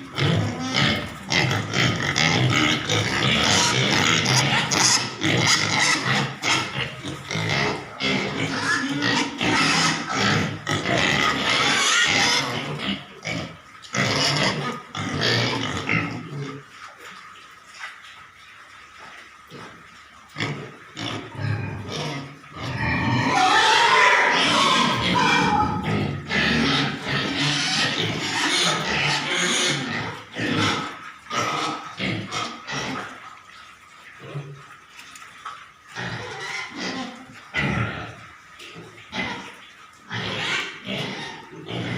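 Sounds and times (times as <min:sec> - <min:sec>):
pigs calling: 0:00.0 - 0:41.9.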